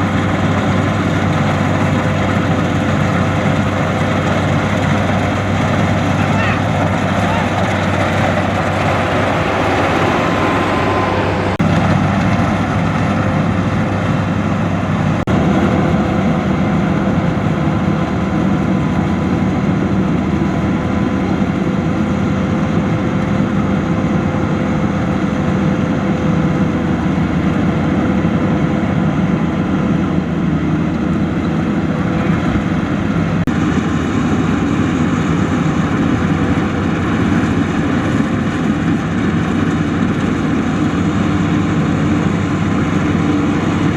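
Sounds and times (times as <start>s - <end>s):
combine harvester engine drone: 0.0s - 43.9s
steady machinery whine: 0.0s - 43.9s.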